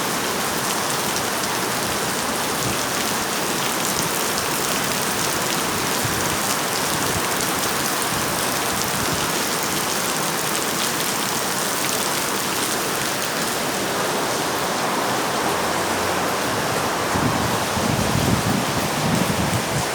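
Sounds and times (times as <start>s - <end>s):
heavy rain downpour: 0.0s - 19.9s.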